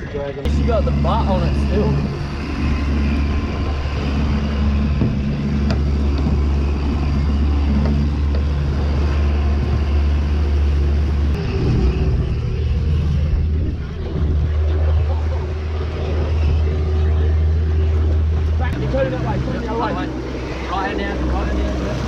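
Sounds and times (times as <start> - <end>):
outboard motor droning: 0.0 - 22.0
water rushing along hull: 0.0 - 22.0.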